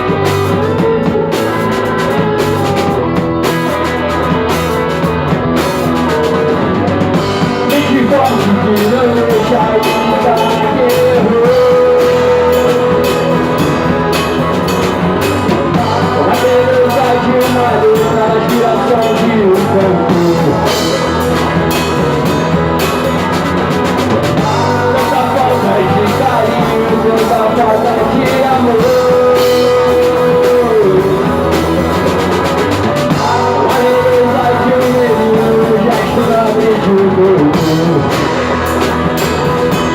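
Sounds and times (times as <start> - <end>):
rock band music: 0.0 - 39.9.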